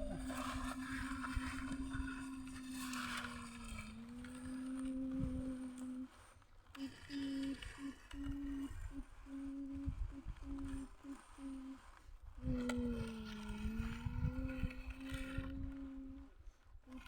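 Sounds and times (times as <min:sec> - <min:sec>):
toy electric motor whirring: 0:00.0 - 0:17.0.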